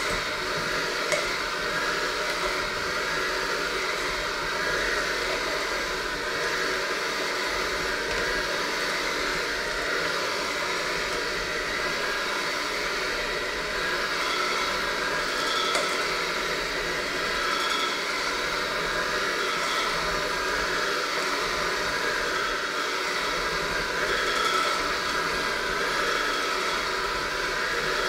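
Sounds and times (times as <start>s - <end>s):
electric hand mixer running: 0.0s - 28.0s.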